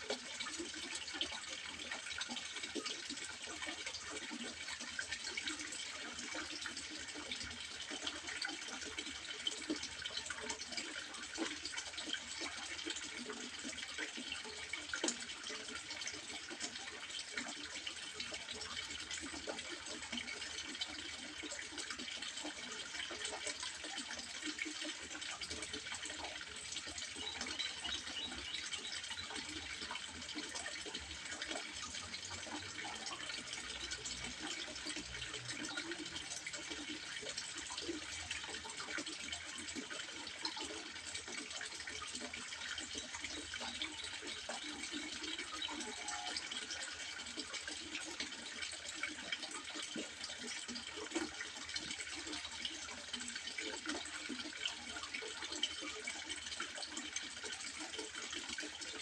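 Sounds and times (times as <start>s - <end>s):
water trickling into a pond: 0.0s - 59.0s.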